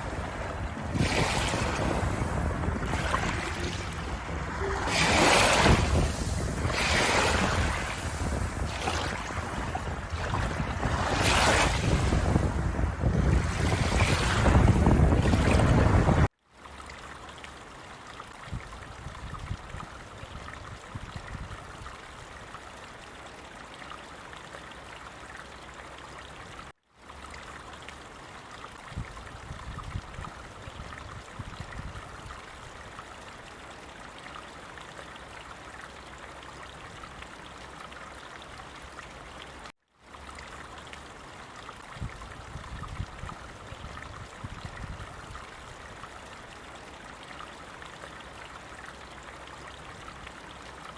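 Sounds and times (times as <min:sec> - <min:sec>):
stream water flowing: 0:00.0 - 0:50.9.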